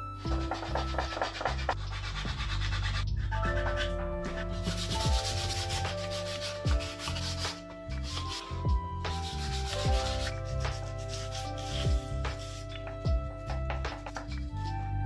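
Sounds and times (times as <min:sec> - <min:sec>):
background music with soft beat: 0:00.0 - 0:15.0
sandpaper sanding wood: 0:00.3 - 0:12.8.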